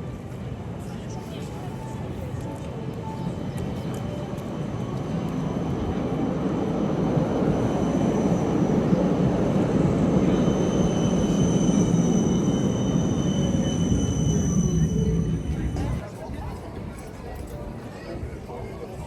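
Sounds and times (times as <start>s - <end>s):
tram rumble: 0.0s - 19.0s.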